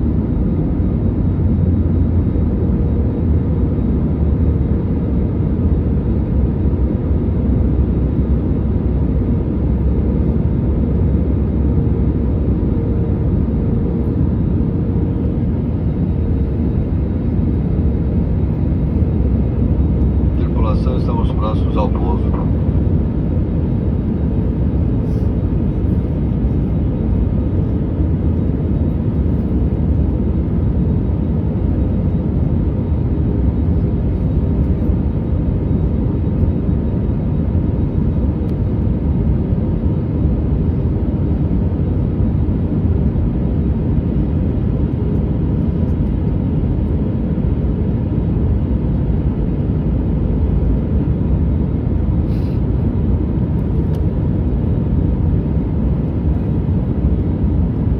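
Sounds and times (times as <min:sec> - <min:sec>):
airplane cabin rumble: 0:00.0 - 0:57.9.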